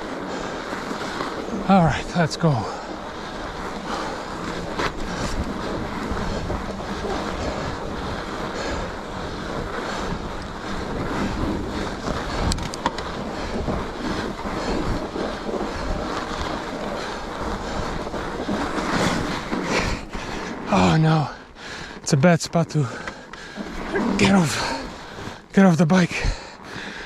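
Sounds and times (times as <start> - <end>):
wind noise on microphone: 0.0 - 22.0
bike tyres rushing on snow: 0.0 - 27.0.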